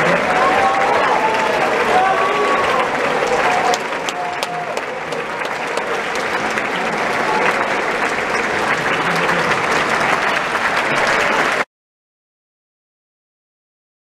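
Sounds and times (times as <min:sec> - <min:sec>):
audience applauding: 0:00.0 - 0:11.7
close hand clapping: 0:00.0 - 0:11.7.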